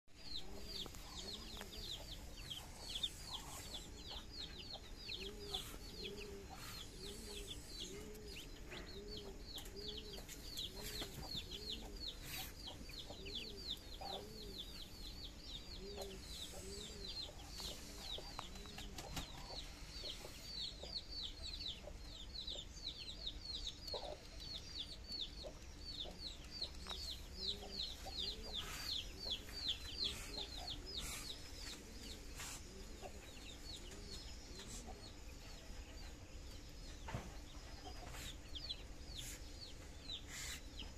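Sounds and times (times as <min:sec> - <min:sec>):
ducklings peeping: 0:00.2 - 0:40.9.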